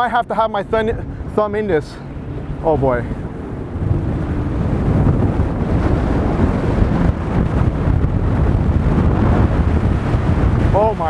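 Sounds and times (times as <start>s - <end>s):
boat engines under hard throttle: 0.0s - 11.0s
water rushing along hull: 0.0s - 11.0s
wind buffeting microphone: 0.0s - 11.0s.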